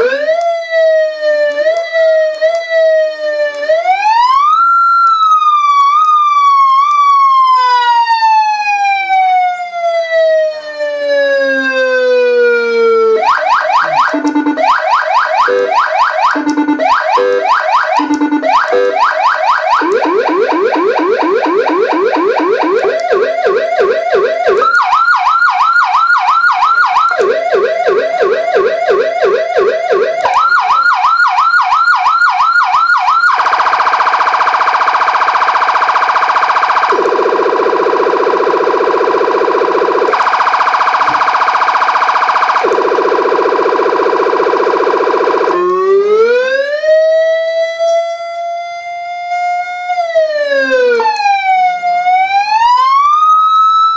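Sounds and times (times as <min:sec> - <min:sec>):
electronic siren yelp: 0:00.0 - 0:53.9
siren wail: 0:00.0 - 0:53.9
two-tone hi-lo siren: 0:00.0 - 0:53.9.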